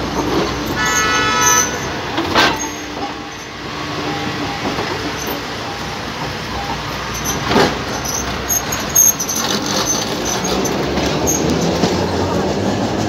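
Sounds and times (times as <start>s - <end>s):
high wheel squeaks: 0.0s - 12.4s
tram rumbling on rails: 0.0s - 13.0s.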